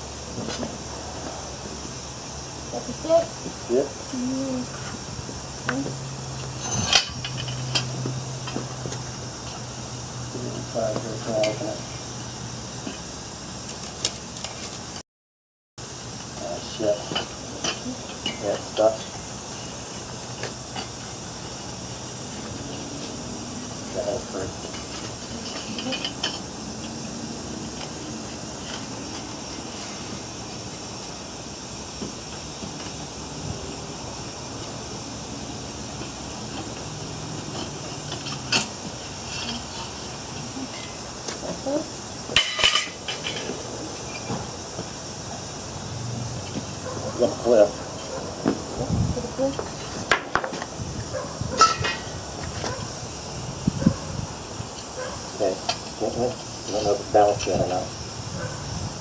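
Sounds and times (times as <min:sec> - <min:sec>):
low hum and hiss: 0:00.0 - 0:14.9, 0:15.8 - 0:59.0.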